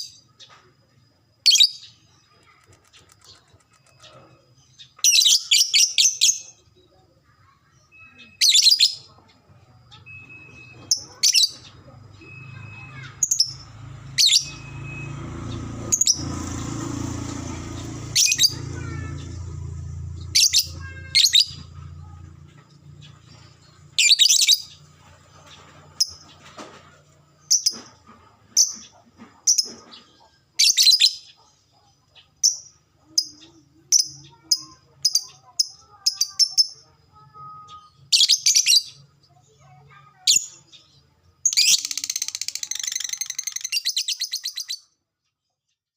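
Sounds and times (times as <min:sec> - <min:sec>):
lovebird chirping: 0:01.4 - 0:16.4, 0:20.2 - 0:26.5, 0:27.3 - 0:44.9.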